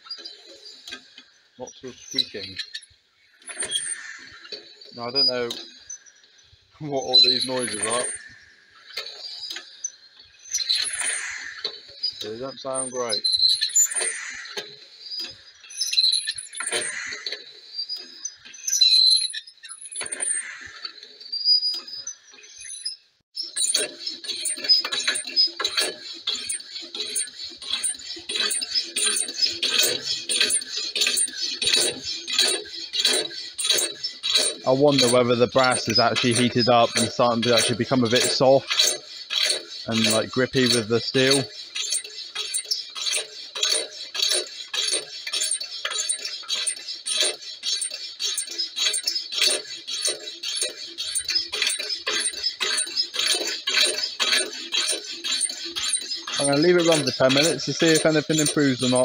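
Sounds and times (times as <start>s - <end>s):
engine pistons squeaking metallically: 0.0s - 59.0s.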